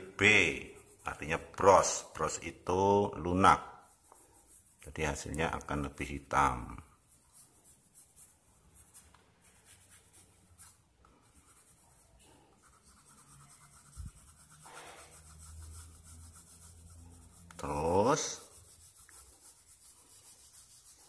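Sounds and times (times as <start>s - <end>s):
pencil shading on paper: 0.0s - 2.4s, 3.2s - 5.2s, 5.8s - 21.0s.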